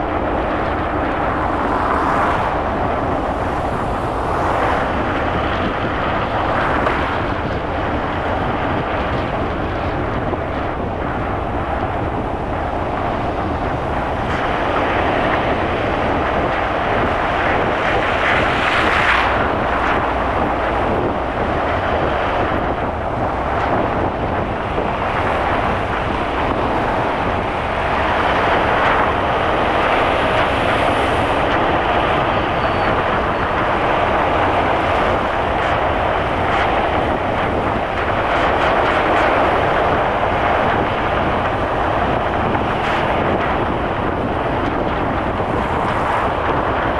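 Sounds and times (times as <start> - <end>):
car road noise: 0.0 - 46.9.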